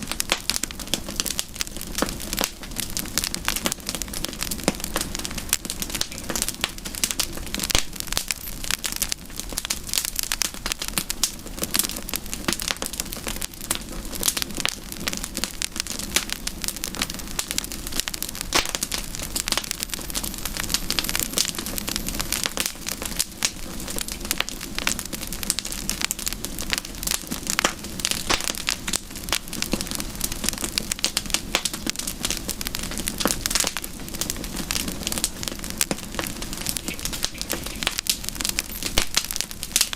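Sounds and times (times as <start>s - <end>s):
campfire crackling and popping: 0.0s - 39.9s
low hiss of flame: 0.0s - 39.9s.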